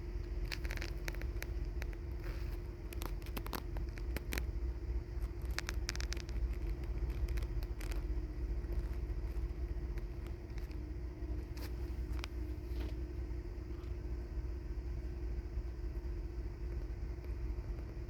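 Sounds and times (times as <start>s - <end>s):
small clicks and crackles: 0.0s - 14.1s, 14.9s - 18.0s
vehicle engine running: 0.0s - 18.0s.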